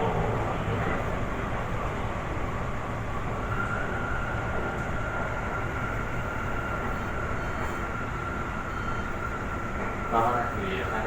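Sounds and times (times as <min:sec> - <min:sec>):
steady high whine: 0:00.0 - 0:11.0
train rumble inside carriage: 0:00.0 - 0:11.0.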